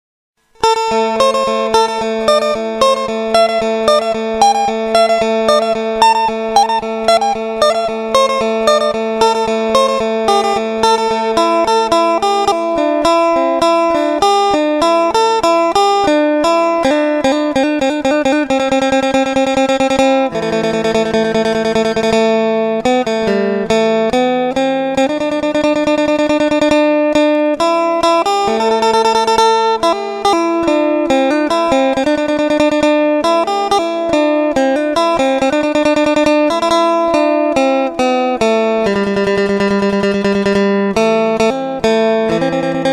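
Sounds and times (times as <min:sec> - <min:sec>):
plucked string instrument melody: 0:00.4 - 0:42.9.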